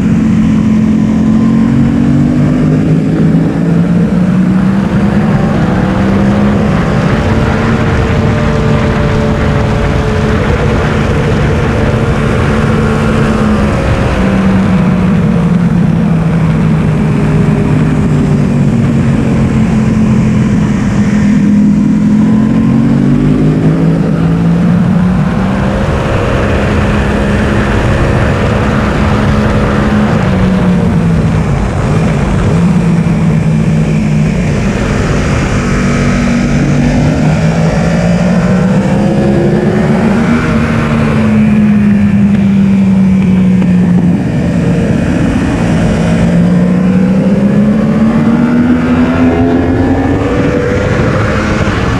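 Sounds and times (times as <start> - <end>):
motorcycle engine revving: 0.0 - 51.9
wind rush: 0.0 - 51.9.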